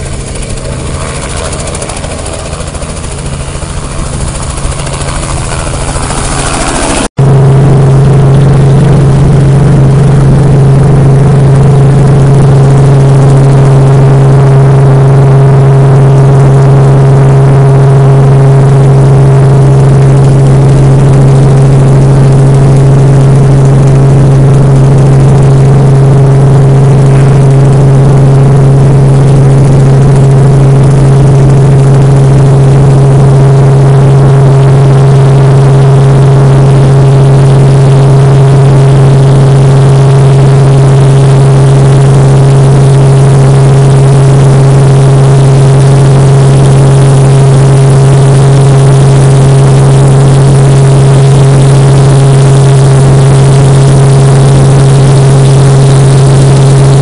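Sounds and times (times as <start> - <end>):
helicopter cabin drone: 0.0 - 57.0
helicopter lifting off: 0.0 - 57.0.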